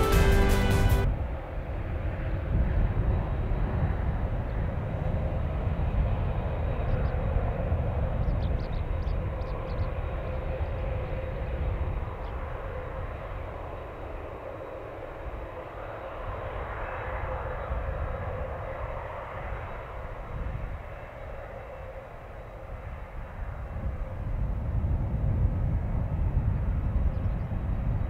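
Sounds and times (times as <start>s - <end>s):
distant jet engines rumbling: 0.0s - 28.0s.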